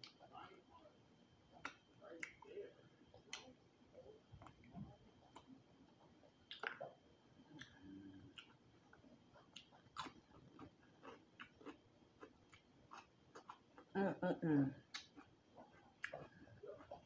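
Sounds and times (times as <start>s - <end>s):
chewing crispy food: 1.5s - 17.0s.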